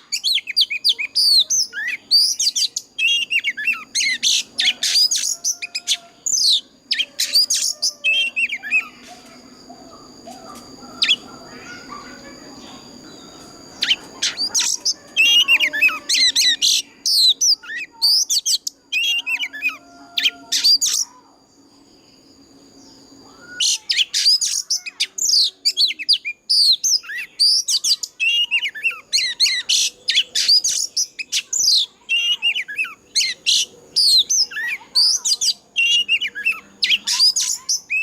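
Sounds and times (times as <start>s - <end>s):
bird singing whistles and chirps: 0.0s - 21.4s, 22.8s - 38.0s.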